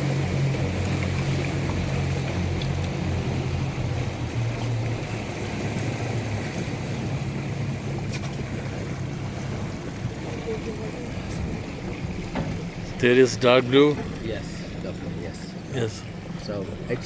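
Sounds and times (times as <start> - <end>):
small boat engine running: 0.0 - 17.0
water noise: 0.0 - 17.0.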